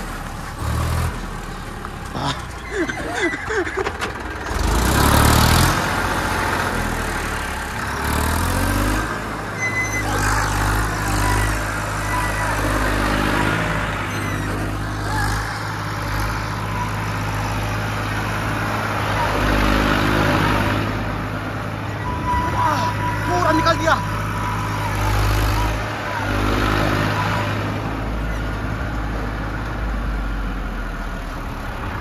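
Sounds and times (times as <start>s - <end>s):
tractor engine revving: 0.0s - 32.0s.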